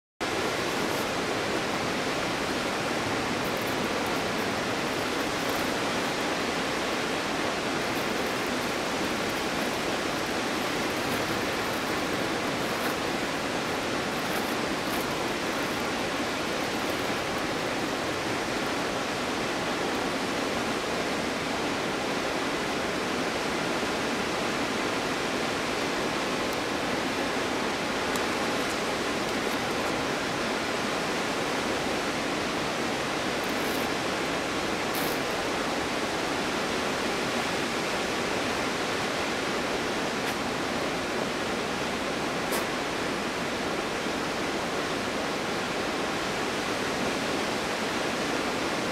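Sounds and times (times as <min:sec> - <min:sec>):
waterfall splashing: 0:00.2 - 0:48.9.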